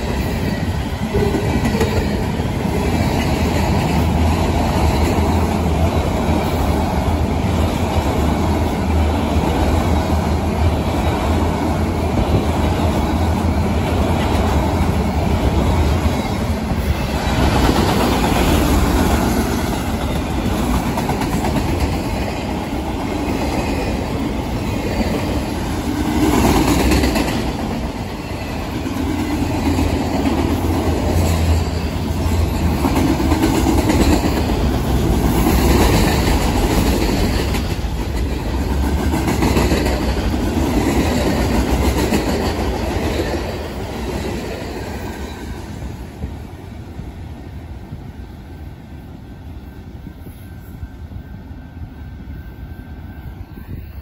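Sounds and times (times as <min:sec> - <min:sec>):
freight train rolling on steel wheels: 0:00.0 - 0:54.0.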